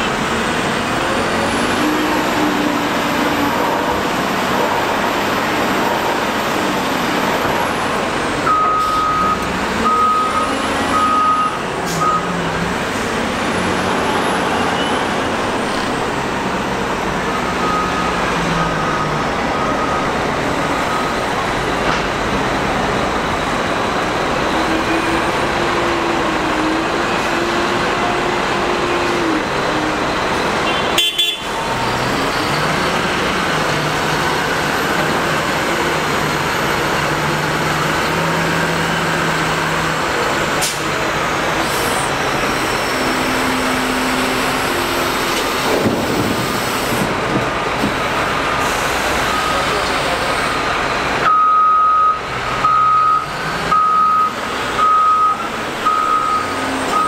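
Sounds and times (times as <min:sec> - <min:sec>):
wheel loader diesel engine: 0:00.0 - 0:57.0.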